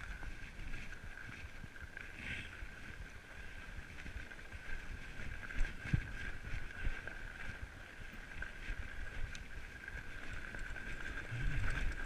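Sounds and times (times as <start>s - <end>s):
bike tires rumbling over snow: 0.0s - 12.0s.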